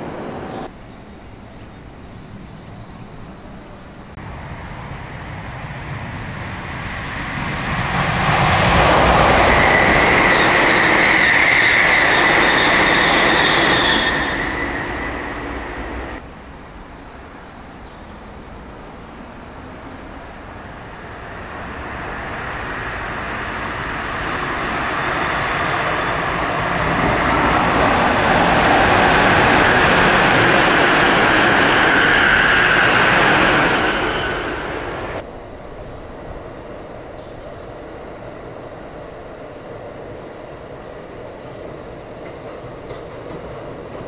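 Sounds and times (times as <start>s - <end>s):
electric train passing: 0.0s - 0.9s, 3.1s - 44.0s.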